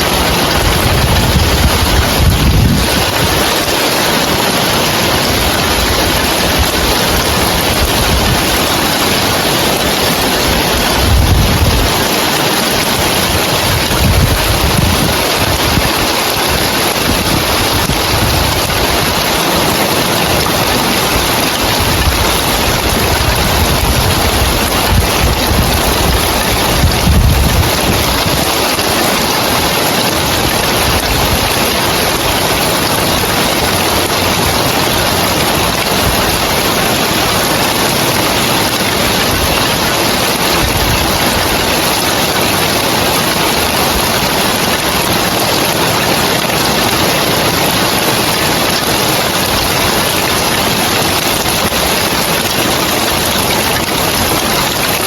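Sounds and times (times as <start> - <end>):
heavy rain on roof tiles: 0.0 - 55.0.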